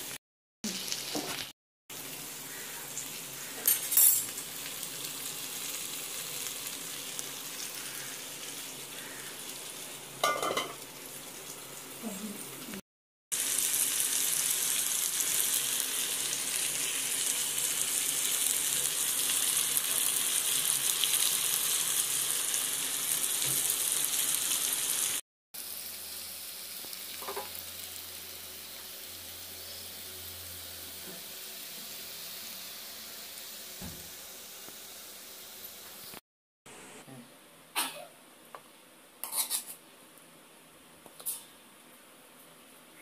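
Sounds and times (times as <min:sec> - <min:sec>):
food sizzling in oil: 0:00.0 - 0:36.9.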